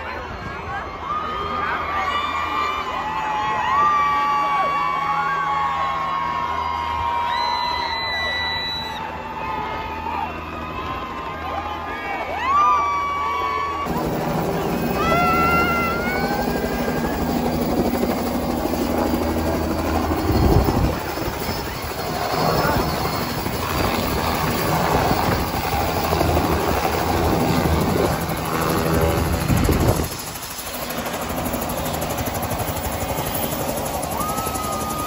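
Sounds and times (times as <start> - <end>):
helicopter running: 2.8 - 12.6, 13.8 - 35.0.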